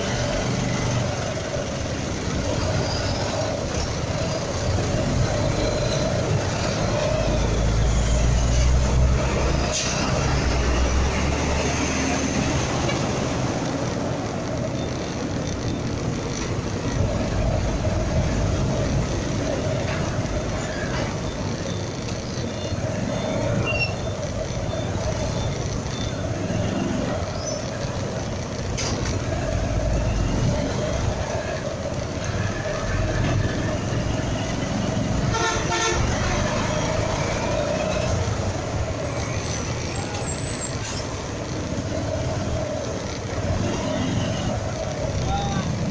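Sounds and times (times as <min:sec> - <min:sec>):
deep truck engine rumble: 0:00.0 - 0:45.9
idling diesel trucks: 0:00.0 - 0:45.9
small motorcycle engines: 0:00.0 - 0:45.9.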